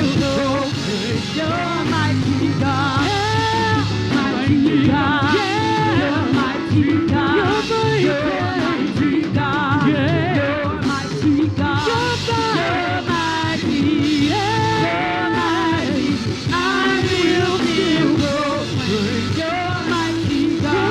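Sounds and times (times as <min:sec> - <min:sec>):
gospel band playing: 0:00.0 - 0:20.9
singers with vibrato: 0:00.0 - 0:20.9
tom drums: 0:00.0 - 0:20.9.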